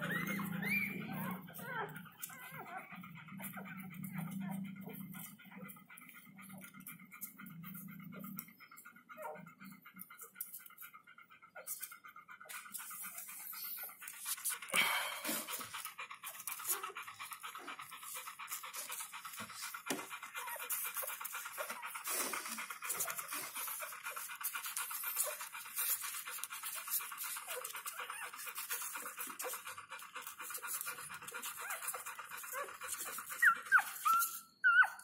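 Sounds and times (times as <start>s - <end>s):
dog panting rapidly: 0.0s - 35.0s.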